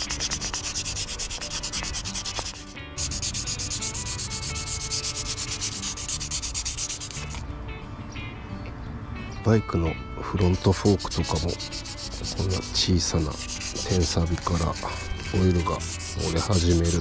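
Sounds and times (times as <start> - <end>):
sandpaper rubbing on metal rod: 0.0 - 7.4, 10.4 - 17.0.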